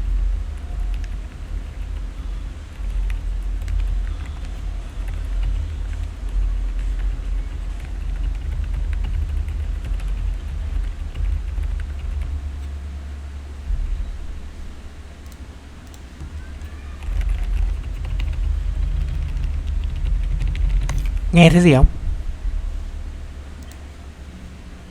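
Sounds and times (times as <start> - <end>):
steady low rumble: 0.0 - 15.8, 17.4 - 24.9.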